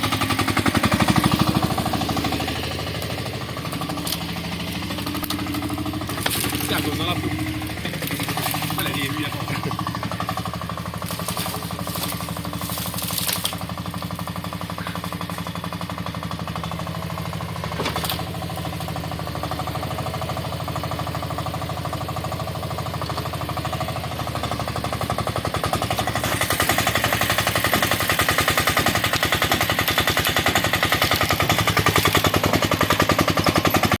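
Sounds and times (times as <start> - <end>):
excavator engine running: 0.0 - 34.0.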